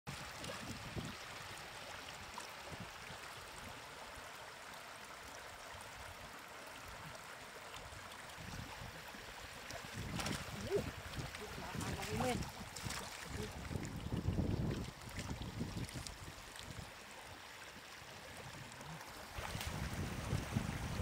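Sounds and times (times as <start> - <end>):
rush of flowing water: 0.1 - 21.0.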